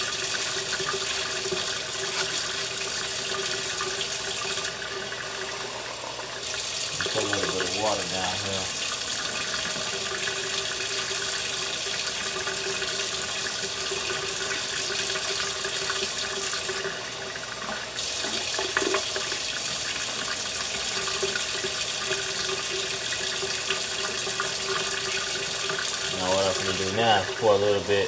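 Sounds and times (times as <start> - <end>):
cup filling under tap: 0.0 - 28.0.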